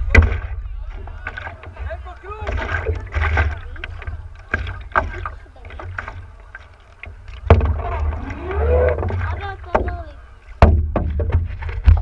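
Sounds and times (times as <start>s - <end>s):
low rumble of wind and water: 0.0s - 12.0s
paddle strokes and water splashing: 0.0s - 12.0s.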